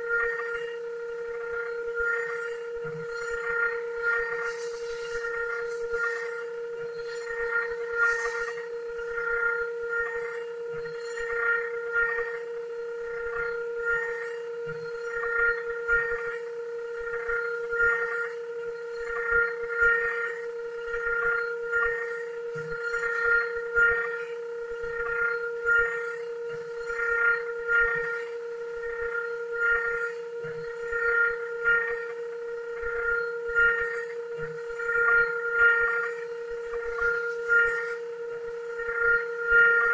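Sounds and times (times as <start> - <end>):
machine spindle whine: 0.0 - 39.9.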